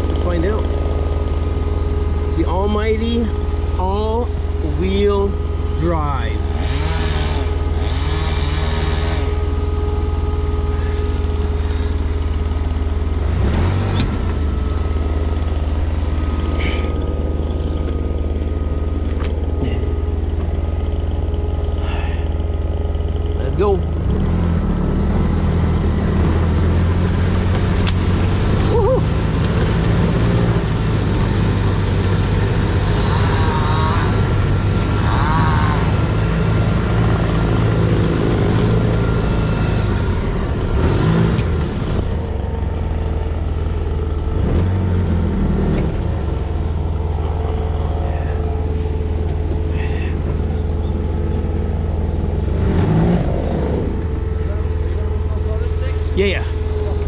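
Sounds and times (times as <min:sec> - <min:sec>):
utility vehicle engine under load: 0:00.0 - 0:57.0.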